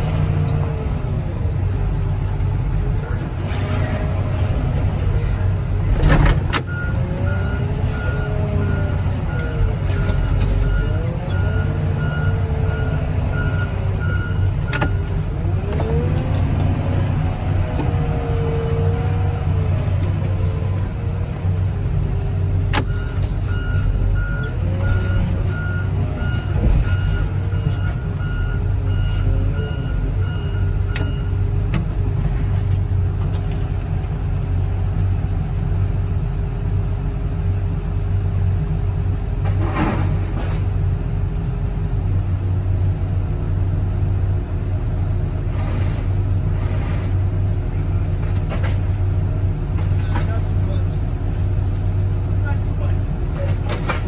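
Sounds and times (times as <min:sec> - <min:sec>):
diesel loader engine under load: 0:00.0 - 0:54.0.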